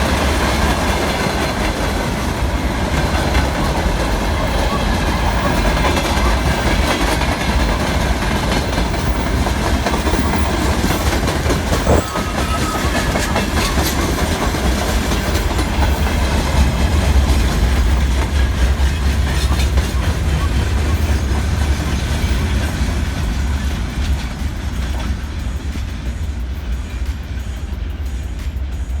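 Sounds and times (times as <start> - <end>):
wheels clacking over rail joints: 0.0 - 28.9
freight train rumble: 0.0 - 29.0.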